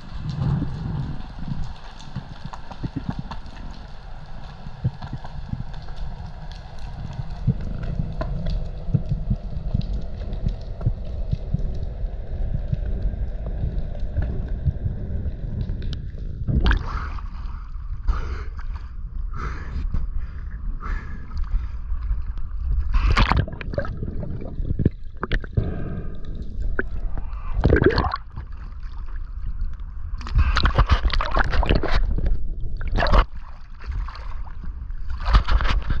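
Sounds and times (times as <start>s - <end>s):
splashing and bubbling: 0.0s - 19.5s, 20.2s - 36.0s
steady low rumble: 0.0s - 36.0s
water sloshing and gurgling: 0.0s - 36.0s.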